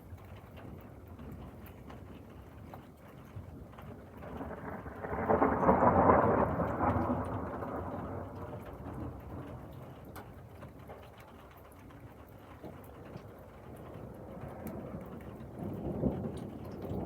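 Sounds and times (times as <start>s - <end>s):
thunder rumbling: 0.0s - 11.1s, 12.0s - 17.0s
rain falling: 0.0s - 17.0s
raindrops ticking: 0.0s - 17.0s.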